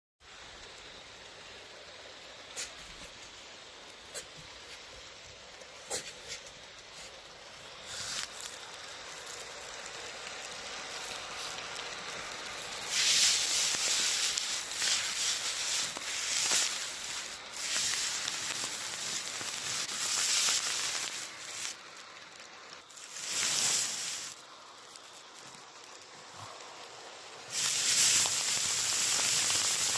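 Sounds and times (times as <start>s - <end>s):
model train wheels rattling on rails: 0.3s - 29.9s.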